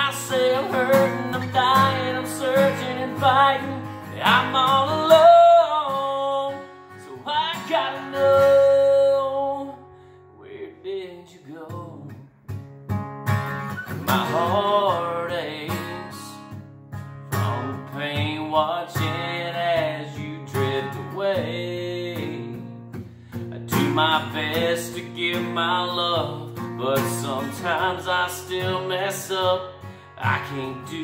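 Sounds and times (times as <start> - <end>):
man singing slow country song: 0.0 - 12.4, 13.7 - 16.6, 17.3 - 31.0
strummed acoustic guitar: 0.0 - 31.0.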